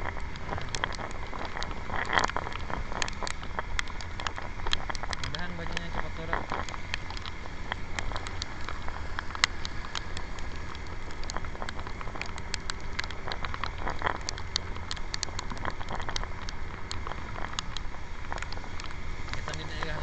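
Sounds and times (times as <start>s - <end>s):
raindrops ticking on camera: 0.0s - 20.0s
wind and scooter rumble: 0.0s - 20.0s.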